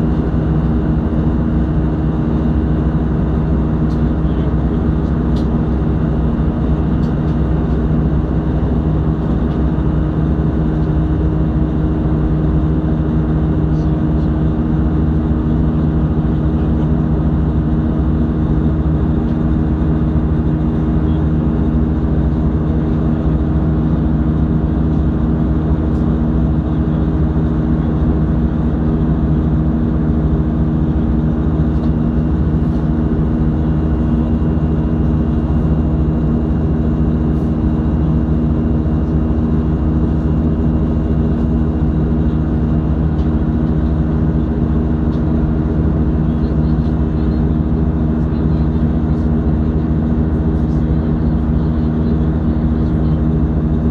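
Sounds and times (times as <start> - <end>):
jet engine drone: 0.0 - 53.9.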